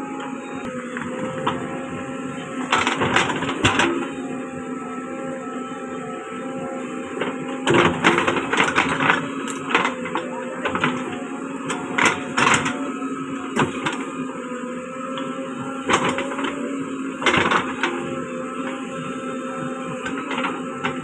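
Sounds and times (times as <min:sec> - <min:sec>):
backhoe engine whining: 0:00.0 - 0:21.0.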